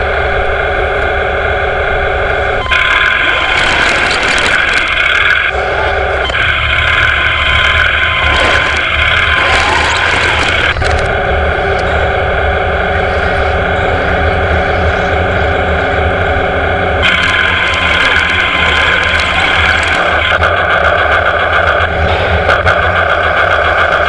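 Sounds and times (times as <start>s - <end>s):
model tank motor whine: 0.0s - 24.0s.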